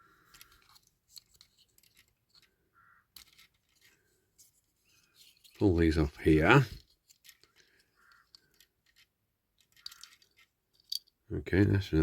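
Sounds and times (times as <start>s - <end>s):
faint clicks and scratches: 0.0s - 11.1s.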